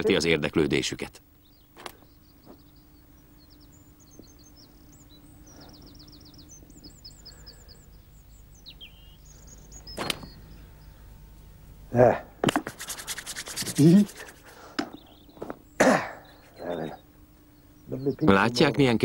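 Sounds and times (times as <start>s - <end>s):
songbird chirping and trilling: 0.0s - 19.0s.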